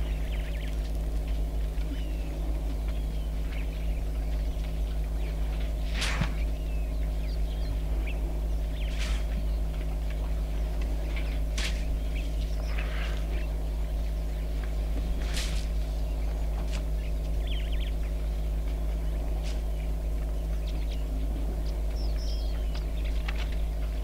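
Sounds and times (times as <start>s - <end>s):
bird chirps: 0.0s - 0.9s, 1.6s - 24.0s
vehicle engine idling: 0.0s - 24.0s.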